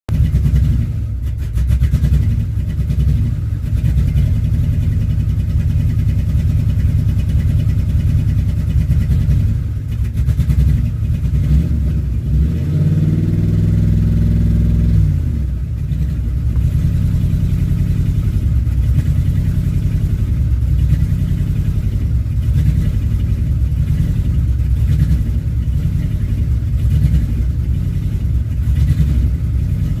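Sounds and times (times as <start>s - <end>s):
truck engine idling roughly: 0.1s - 12.3s, 15.5s - 30.0s
engine revving: 0.1s - 30.0s.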